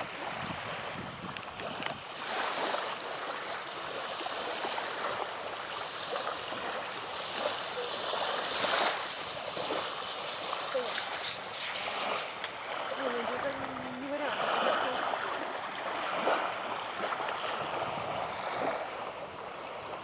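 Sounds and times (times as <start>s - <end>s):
waves lapping on sandy shore: 0.0s - 20.0s.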